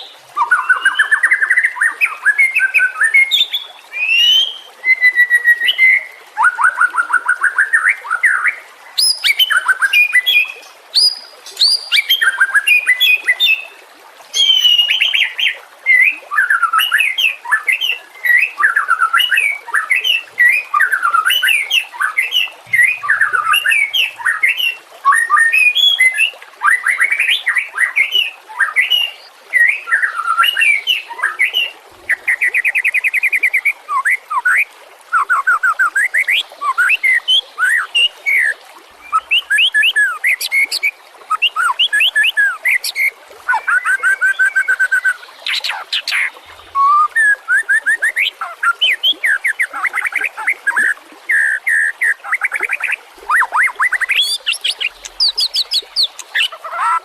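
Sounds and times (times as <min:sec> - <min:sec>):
bird singing whistled song: 0:00.0 - 0:13.6, 0:14.3 - 0:57.0.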